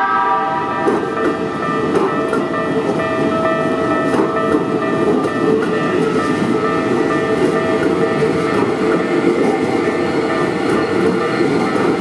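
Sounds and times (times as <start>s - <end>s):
level-crossing warning bell: 0.0s - 12.0s
train wheels rumbling over rail joints: 0.7s - 12.0s.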